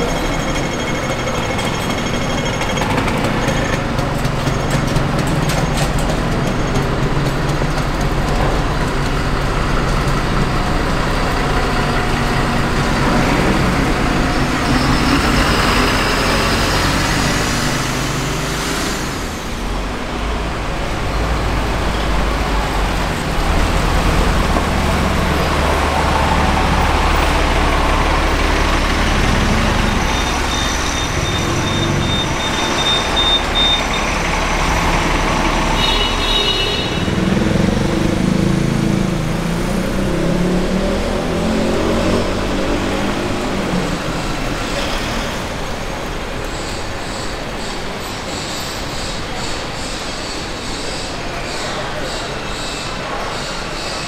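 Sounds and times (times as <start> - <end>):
vehicle engines passing: 0.0 - 54.0.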